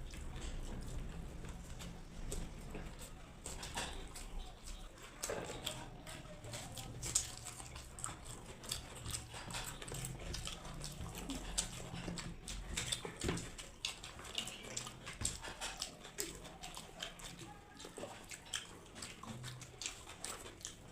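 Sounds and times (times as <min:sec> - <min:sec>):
wet chewing: 0:00.0 - 0:20.9.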